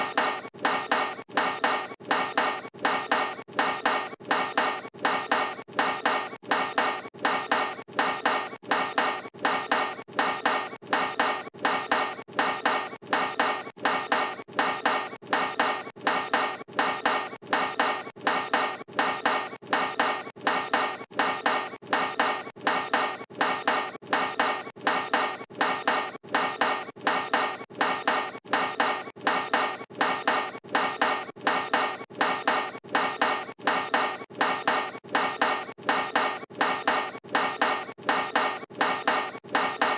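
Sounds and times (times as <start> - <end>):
basketball clanking off metal rim: 0.0 - 39.9.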